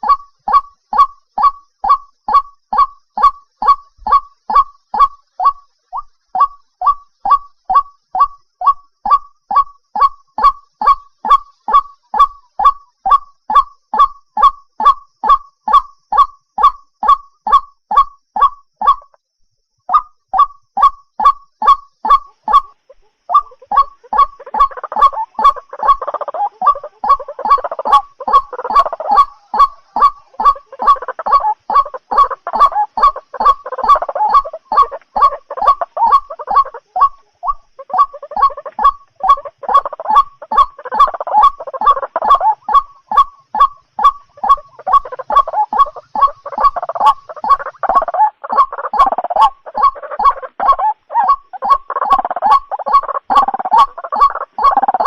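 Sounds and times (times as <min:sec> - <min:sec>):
bird repeated kwak calls: 0:00.0 - 0:19.2, 0:19.9 - 0:55.0
croaking chorus: 0:00.0 - 0:19.3, 0:19.9 - 0:55.0.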